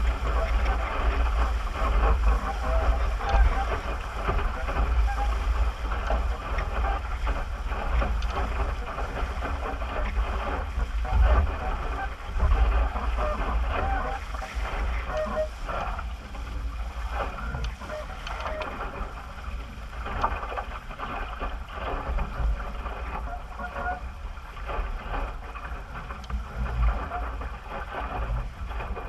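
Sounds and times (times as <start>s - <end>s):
water splashing along hull: 0.0s - 29.0s
wind gusting on microphone: 0.0s - 29.0s.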